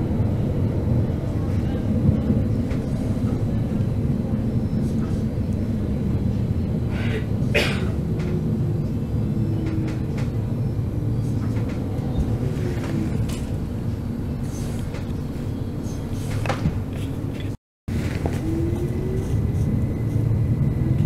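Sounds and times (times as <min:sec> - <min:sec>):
passenger train rumbling on track: 0:00.0 - 0:21.0.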